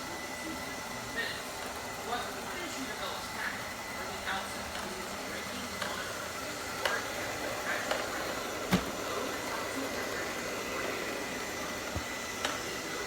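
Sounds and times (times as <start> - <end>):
robot vacuum motor hum: 0.0 - 13.0.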